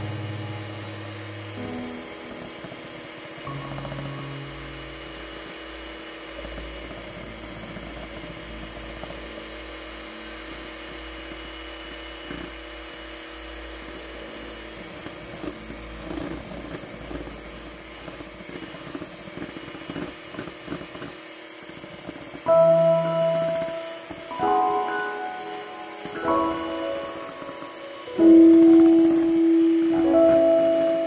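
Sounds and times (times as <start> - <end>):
electric hand mixer running: 0.0 - 31.0.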